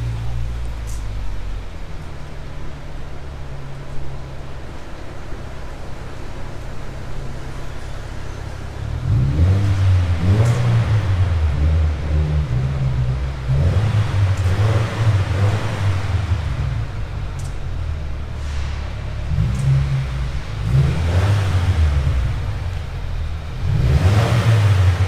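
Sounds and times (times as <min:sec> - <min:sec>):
car engine revving under load: 0:00.0 - 0:25.0.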